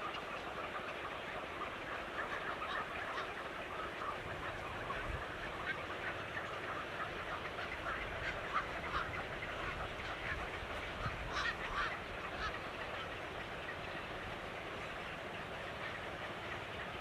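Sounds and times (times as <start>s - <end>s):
birds calling: 0.0s - 17.0s
steady background hiss: 0.0s - 17.0s.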